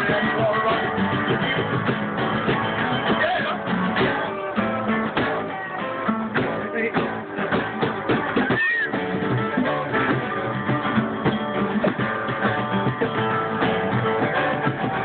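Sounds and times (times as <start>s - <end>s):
picked mandolin: 0.0s - 15.0s
plucked upright bass: 0.0s - 15.0s
strummed acoustic guitar: 0.0s - 15.0s.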